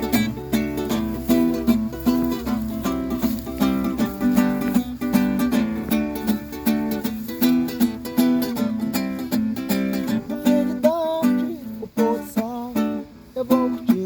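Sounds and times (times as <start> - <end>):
plucked string instrument strummed: 0.0 - 14.0.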